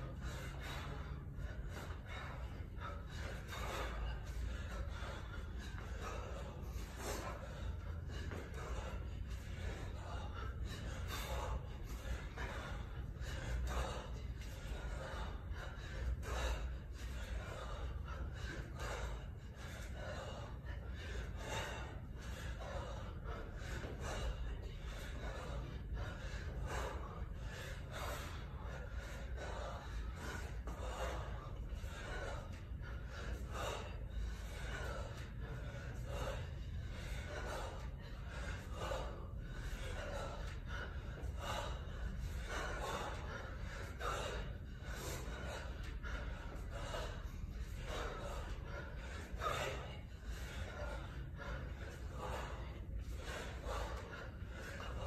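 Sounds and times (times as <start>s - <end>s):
man breathing hard: 0.0s - 55.0s
steady low hum: 0.0s - 55.0s.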